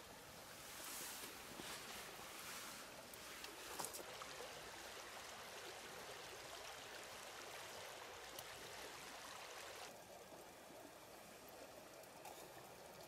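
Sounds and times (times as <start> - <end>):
river water flowing over stones: 0.0 - 13.0.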